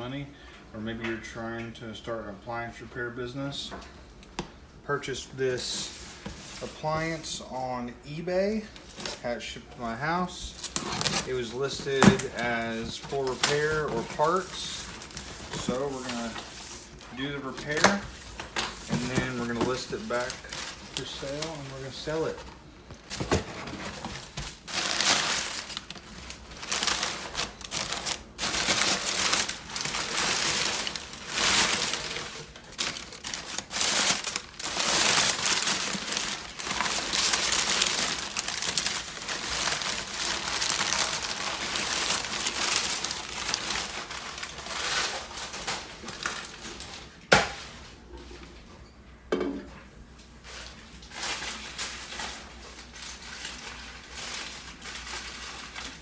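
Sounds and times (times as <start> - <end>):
packing material crinkling: 8.5 - 47.8, 50.4 - 56.0.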